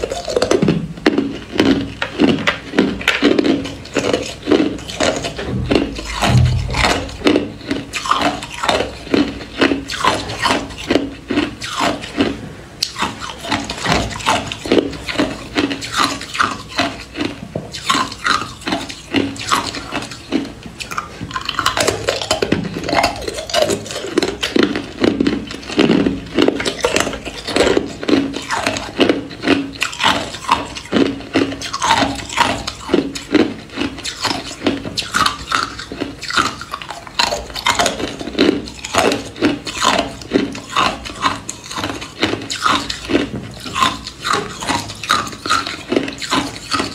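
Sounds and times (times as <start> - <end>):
ice cubes crunching: 0.0 - 46.9.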